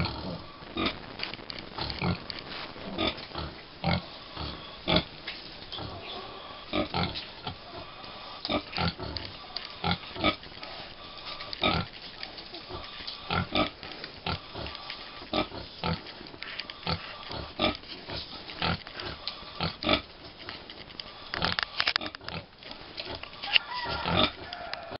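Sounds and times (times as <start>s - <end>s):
pigs grunting: 0.0s - 1.0s, 1.8s - 20.1s, 21.1s - 24.9s.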